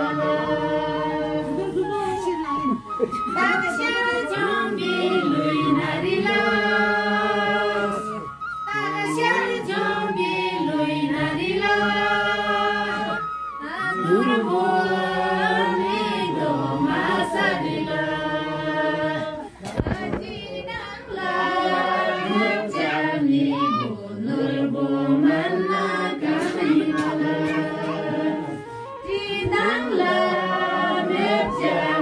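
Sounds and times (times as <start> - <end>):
women singing unaccompanied: 0.0 - 32.0.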